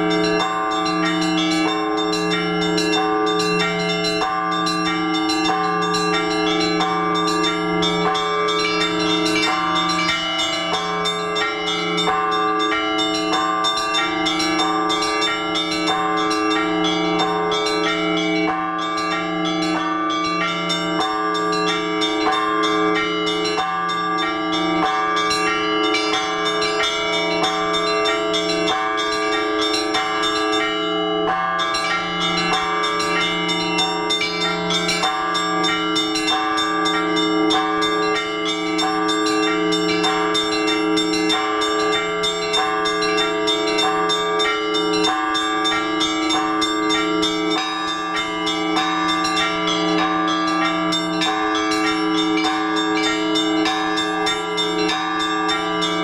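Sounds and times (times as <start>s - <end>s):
large bells humming: 0.0s - 56.0s
small bells struck rapidly: 0.0s - 56.0s.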